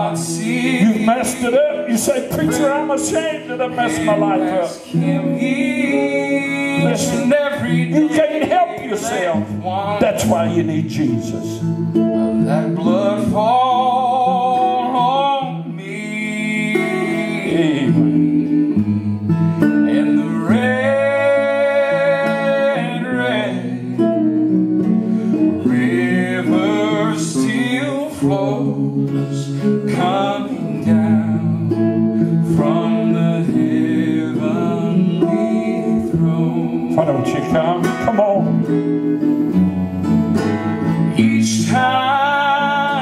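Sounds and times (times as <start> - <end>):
man singing a gospel hymn: 0.0 - 11.7, 12.4 - 19.0, 19.6 - 24.5, 25.2 - 38.7, 41.1 - 43.0
strummed electric guitar: 0.0 - 43.0.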